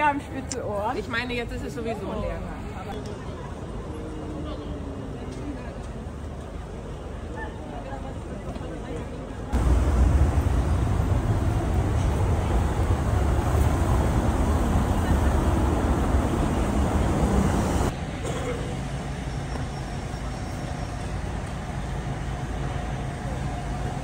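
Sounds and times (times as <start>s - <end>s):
city street traffic noise: 0.0s - 24.0s.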